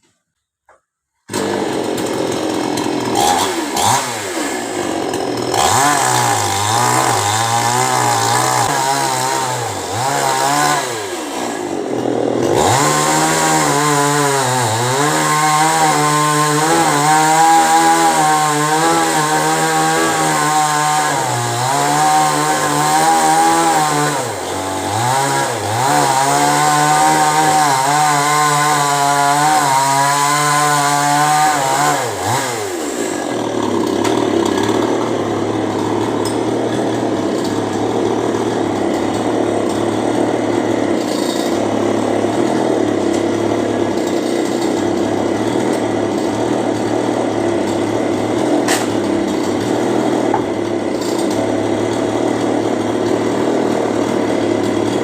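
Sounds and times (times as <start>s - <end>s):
chainsaw engine revving and idling: 1.3s - 55.0s.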